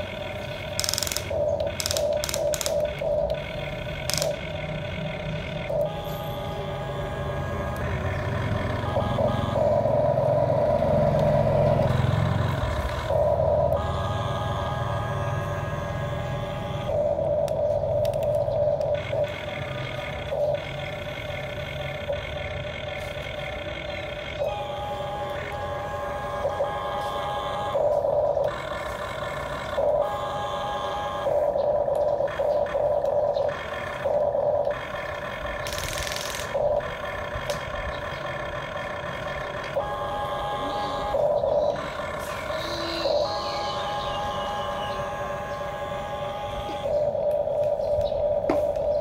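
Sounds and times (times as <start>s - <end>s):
small electric motors whining: 0.0s - 49.0s.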